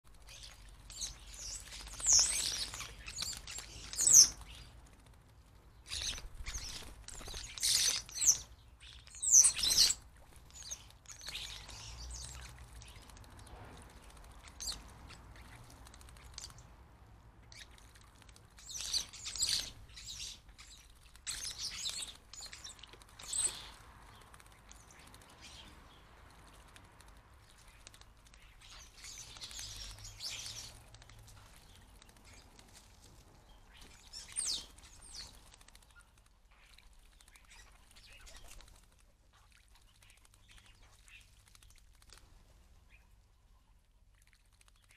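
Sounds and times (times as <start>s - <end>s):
birds splashing in water: 0.1s - 44.9s
birds chirping: 0.2s - 16.8s, 17.4s - 26.7s, 27.4s - 38.7s.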